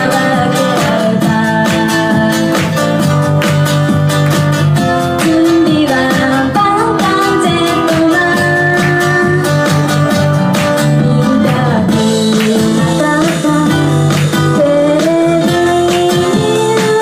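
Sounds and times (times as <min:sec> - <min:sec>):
woman singing: 0:00.0 - 0:03.2, 0:05.0 - 0:17.0
strummed acoustic guitar: 0:00.0 - 0:17.0.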